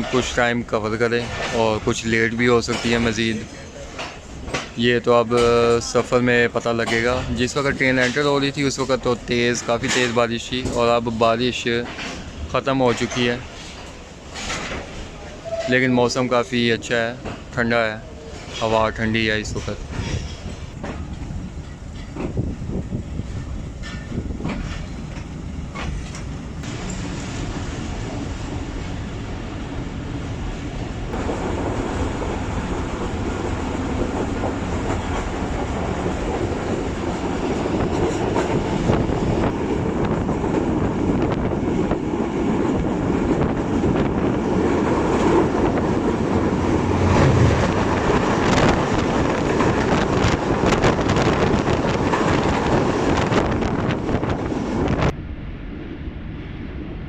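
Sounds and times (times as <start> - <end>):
train wheels clattering over rails: 0.0 - 15.7, 17.0 - 17.6, 23.3 - 29.2, 30.3 - 55.0.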